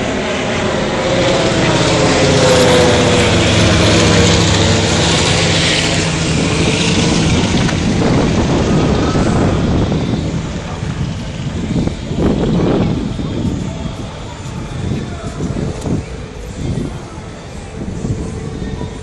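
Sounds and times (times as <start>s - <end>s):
radial aircraft engine flying overhead: 0.0s - 19.0s.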